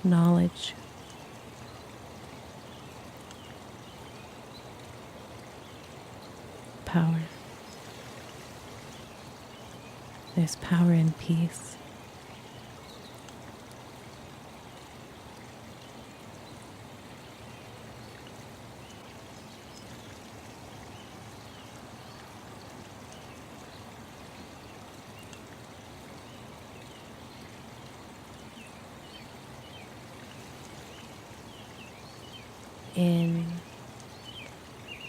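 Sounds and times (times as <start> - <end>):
flowing water: 0.0 - 35.0.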